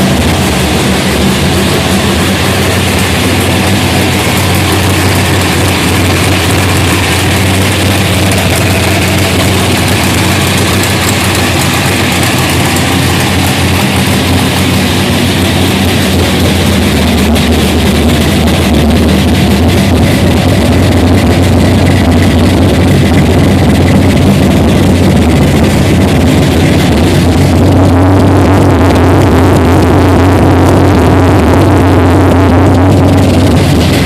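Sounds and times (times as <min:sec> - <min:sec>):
rough car engine idling: 0:00.0 - 0:34.0.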